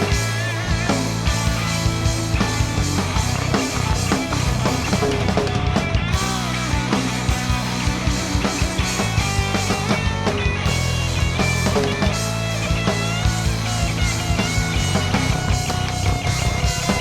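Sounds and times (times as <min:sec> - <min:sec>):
bass notes: 0:00.0 - 0:17.0
drum kit: 0:00.0 - 0:17.0
electric guitar melody: 0:00.0 - 0:17.0.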